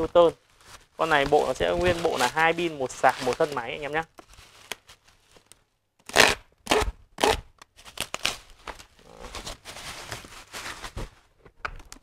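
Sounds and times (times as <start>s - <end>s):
bubble wrap crinkling: 0.0s - 12.0s
bubble wrap popping: 0.0s - 12.0s.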